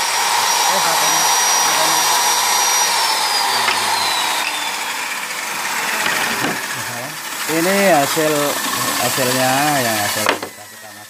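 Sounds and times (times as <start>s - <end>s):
circular saw whining: 0.0s - 11.0s.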